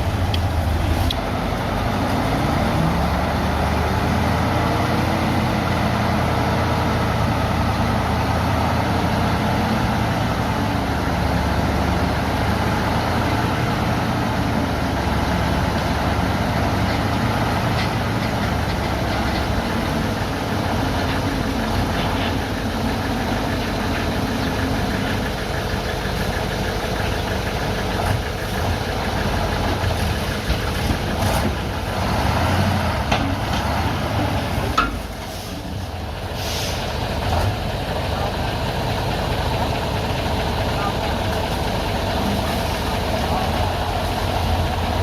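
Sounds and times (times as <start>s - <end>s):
bulldozer engine running: 0.0s - 45.0s.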